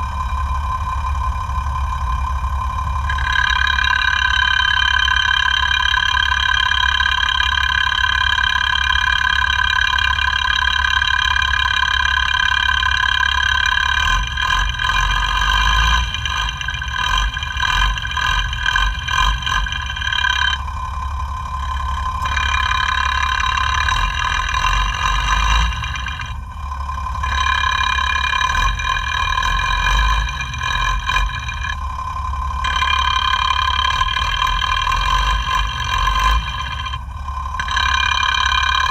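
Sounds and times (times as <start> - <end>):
diesel engine idling through stethoscope: 0.0 - 38.9.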